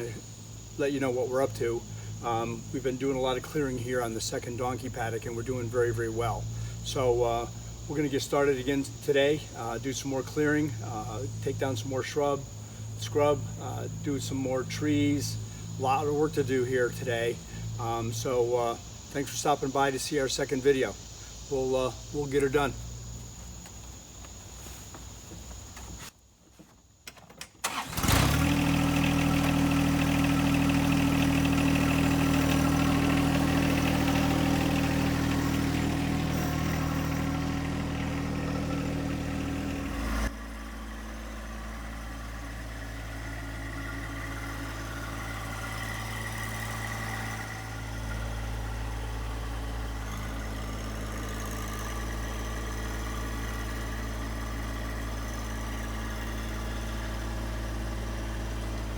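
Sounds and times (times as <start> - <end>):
tractor diesel engine running: 0.0 - 23.2, 27.6 - 58.9.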